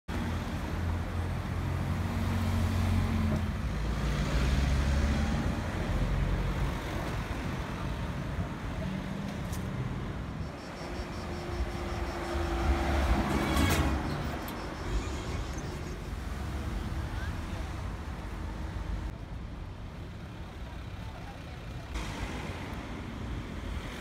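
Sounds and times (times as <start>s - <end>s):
cars driving past: 0.2s - 19.2s, 20.4s - 24.0s.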